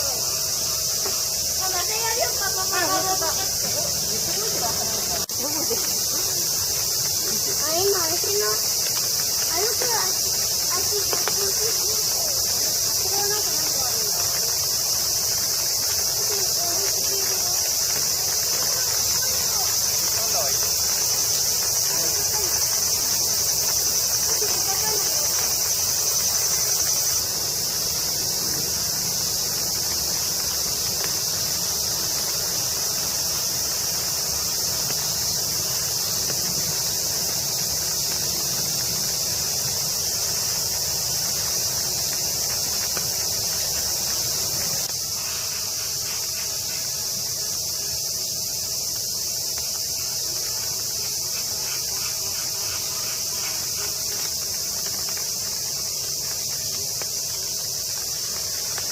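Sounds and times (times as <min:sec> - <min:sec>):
cicadas buzzing: 0:00.0 - 0:58.9.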